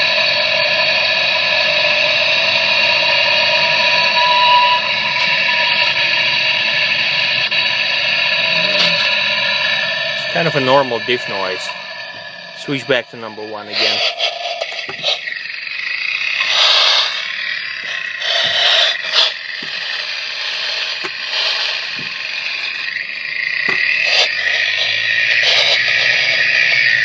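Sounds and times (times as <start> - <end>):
rough axle hiss: 4.9 - 27.0.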